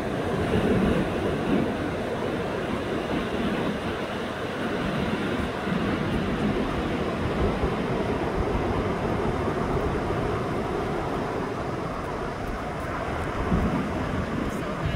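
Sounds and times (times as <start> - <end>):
ocean surf breaking: 0.0 - 14.9.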